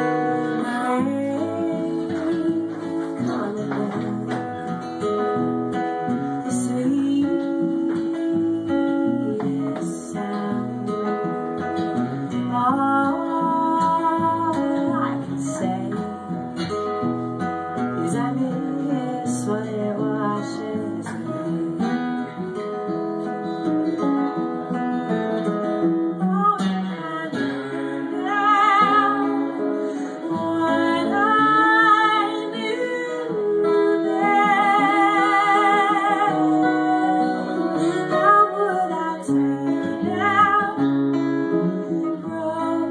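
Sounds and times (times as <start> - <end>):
woman singing with vibrato: 0.0 - 5.0, 5.7 - 16.8, 17.8 - 22.6, 26.1 - 42.9
acoustic guitars strummed and picked: 0.0 - 42.9.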